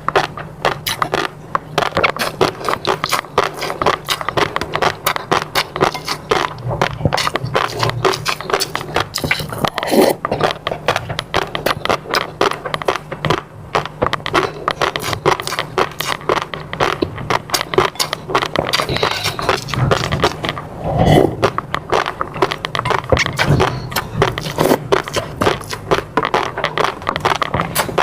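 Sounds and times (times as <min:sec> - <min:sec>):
low mouth sound: 0:00.0 - 0:28.0
person chewing: 0:00.0 - 0:28.0.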